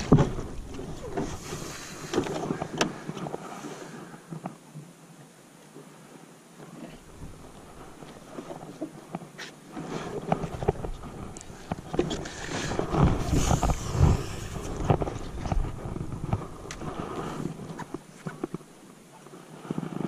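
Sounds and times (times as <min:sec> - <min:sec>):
wind rumble: 0:00.0 - 0:04.2, 0:07.0 - 0:18.8.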